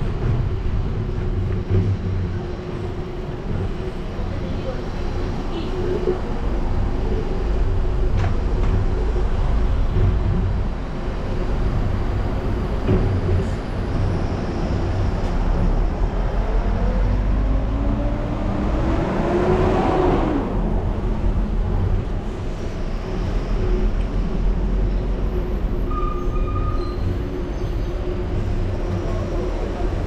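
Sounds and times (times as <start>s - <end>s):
bicycle ride rumble: 0.0s - 25.9s.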